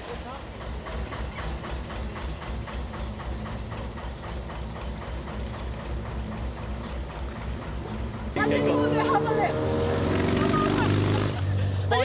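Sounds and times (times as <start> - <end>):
diesel boat engine running: 0.0 - 12.0.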